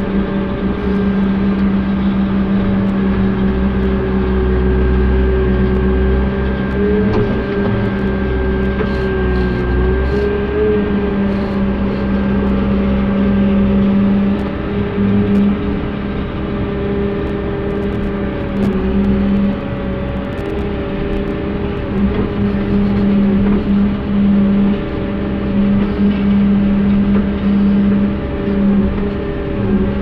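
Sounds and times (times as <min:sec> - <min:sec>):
excavator engine and hydraulics running: 0:00.0 - 0:30.0.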